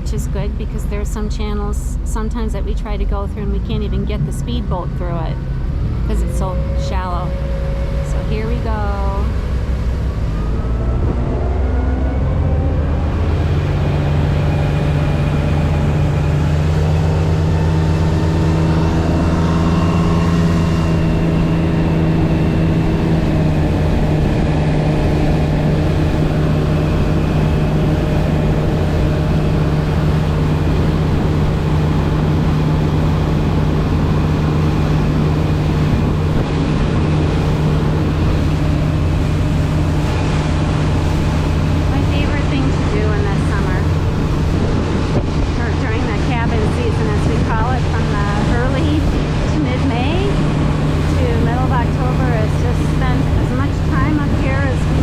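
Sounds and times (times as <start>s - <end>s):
motorboat engine: 0.0s - 55.0s
rush of water noise: 5.4s - 55.0s.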